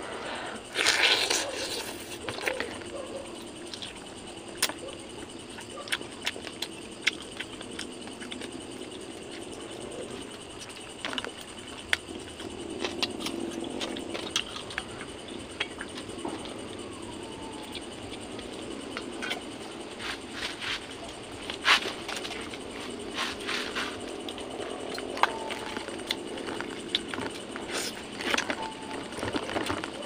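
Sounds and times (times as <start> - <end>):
person chewing with wet clicks: 0.7 - 20.0, 24.0 - 30.0.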